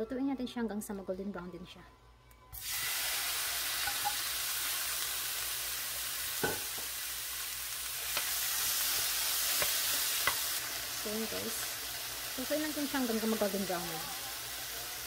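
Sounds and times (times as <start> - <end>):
chicken sizzling in frying pan: 2.6 - 15.0.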